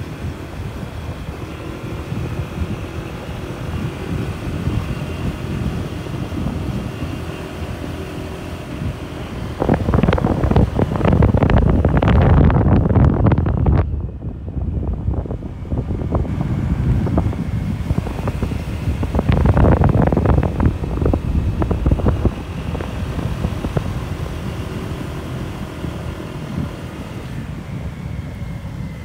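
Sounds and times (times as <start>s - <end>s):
motorcycle engine running: 0.0s - 29.0s
wind rushing over microphone: 0.0s - 29.0s.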